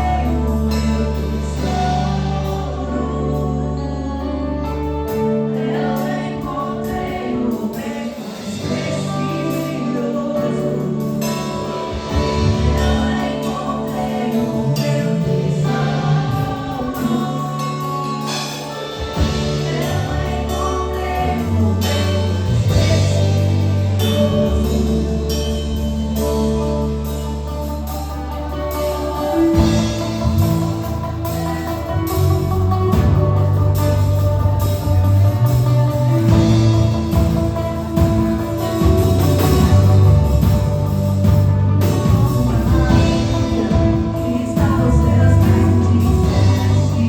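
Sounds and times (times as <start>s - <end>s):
group singing: 0.0s - 27.2s, 28.0s - 34.0s, 34.7s - 47.0s
drums: 0.0s - 47.0s
long held bass notes: 0.0s - 47.0s.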